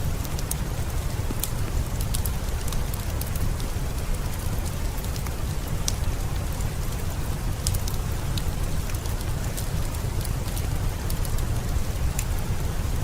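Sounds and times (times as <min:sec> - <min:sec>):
fireplace crackling and popping: 0:00.0 - 0:13.0
heavy rain falling: 0:00.0 - 0:13.0.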